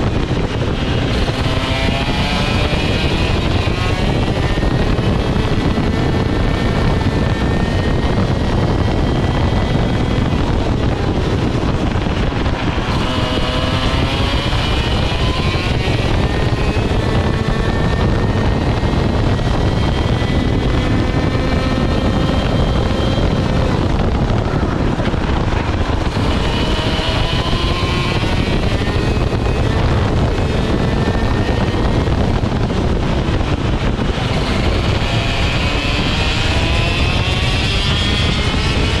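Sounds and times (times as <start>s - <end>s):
kart engine revving: 0.0s - 39.0s
wind and track noise: 0.0s - 39.0s.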